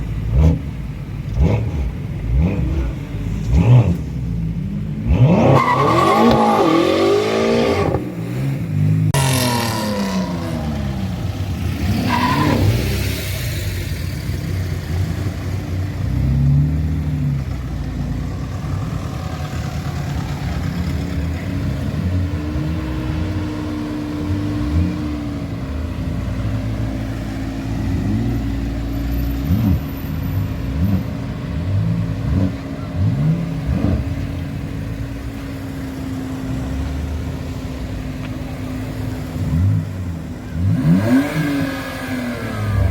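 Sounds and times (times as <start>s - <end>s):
car engine revving and accelerating: 0.2s - 17.6s, 18.3s - 42.9s.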